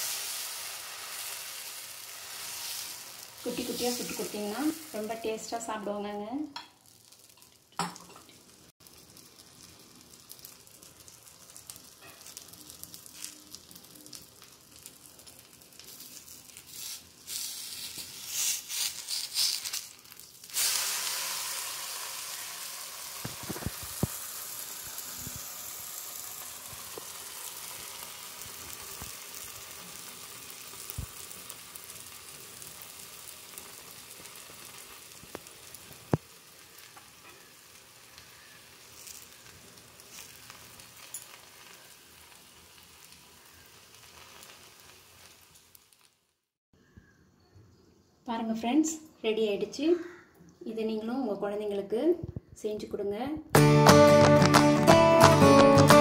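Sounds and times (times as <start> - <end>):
dosa sizzling on hot pan: 0.0 - 47.0.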